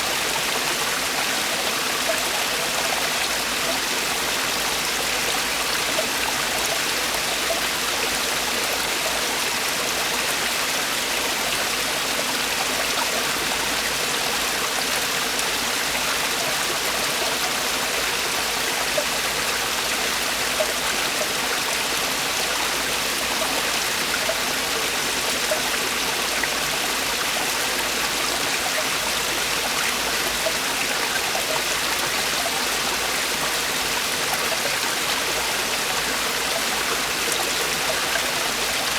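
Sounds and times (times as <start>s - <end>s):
stream water rushing over rocks: 0.0s - 38.9s.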